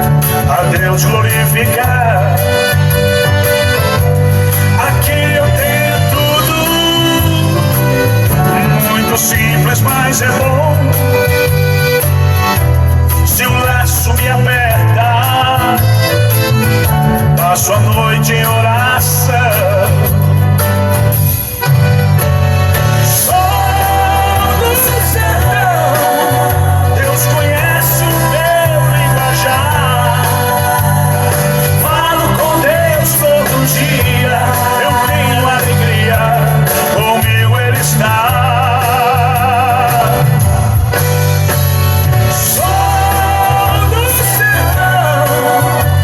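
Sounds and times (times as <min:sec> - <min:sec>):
gospel praise song: 0:00.0 - 0:46.0.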